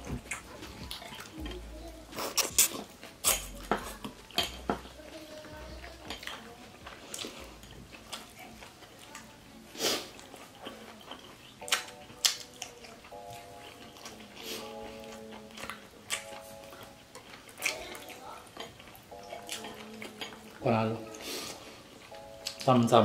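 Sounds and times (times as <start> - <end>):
music: 0.0 - 8.6, 10.7 - 23.0.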